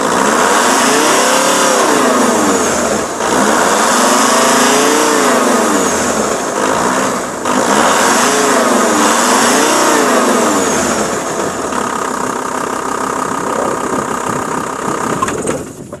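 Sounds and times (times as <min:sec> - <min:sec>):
diesel engine revving and idling: 0:00.0 - 0:15.4.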